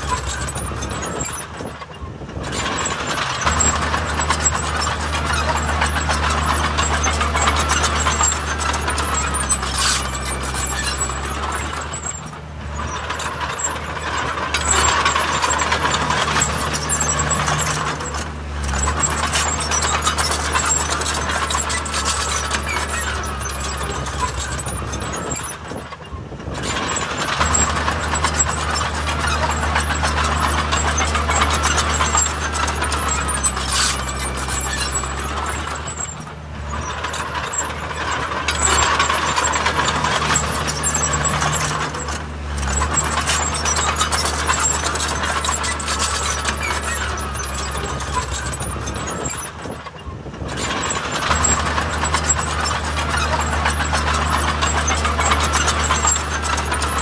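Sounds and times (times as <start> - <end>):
diesel construction machinery: 0.0 - 57.0.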